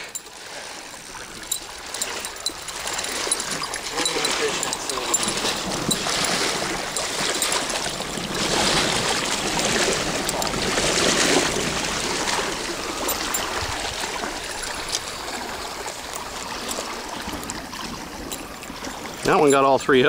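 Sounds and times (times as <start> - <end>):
stream water running and trickling: 0.0 - 20.0.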